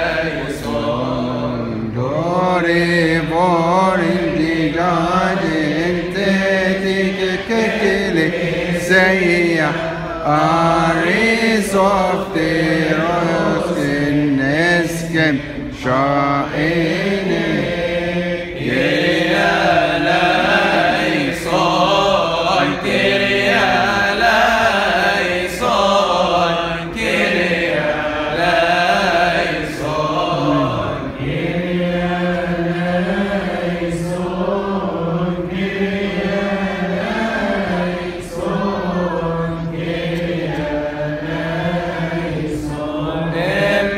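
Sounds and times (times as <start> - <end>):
men chanting in unison: 0.0 - 43.9.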